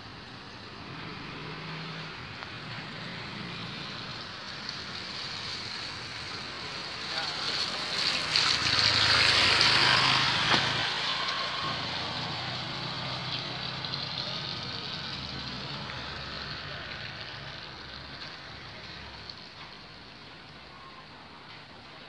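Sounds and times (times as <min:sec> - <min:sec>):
tyre hiss on wet road: 0:00.0 - 0:22.0.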